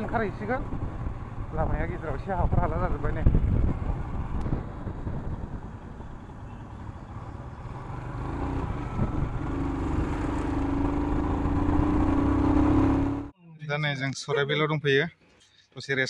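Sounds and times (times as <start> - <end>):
motorcycle engine droning: 0.0 - 13.3
wind and road rumble: 0.0 - 13.4.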